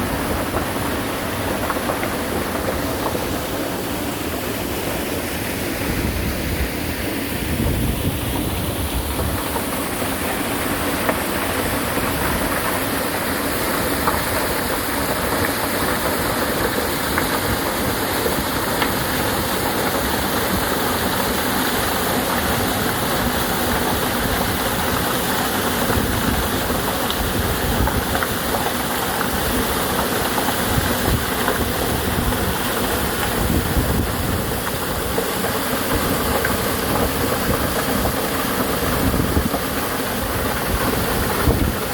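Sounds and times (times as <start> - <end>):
stream water rushing over rocks: 0.0 - 41.9.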